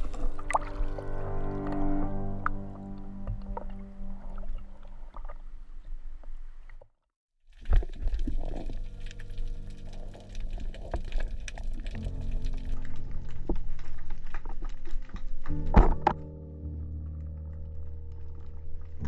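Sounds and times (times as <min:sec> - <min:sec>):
water noise: 0:00.0 - 0:06.9, 0:07.5 - 0:15.9.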